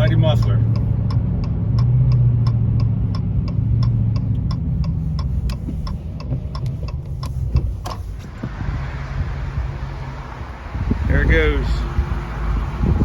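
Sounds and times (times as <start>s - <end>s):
turn signal relay ticking: 0.0s - 11.6s
car engine humming: 0.0s - 13.0s.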